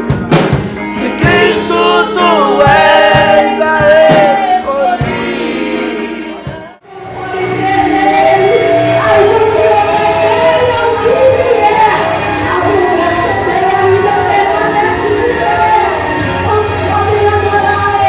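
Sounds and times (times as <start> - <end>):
drums: 0.0 - 18.0
soft musical backing: 0.0 - 18.0
group singing gospel song: 1.0 - 18.0.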